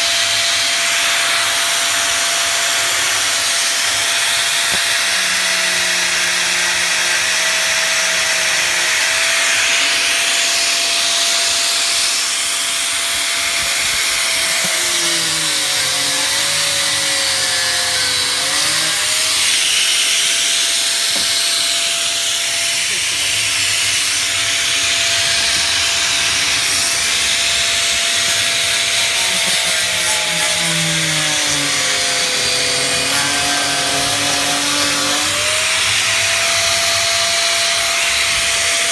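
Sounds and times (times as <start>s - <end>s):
angle grinder cutting plastic: 0.0s - 38.9s.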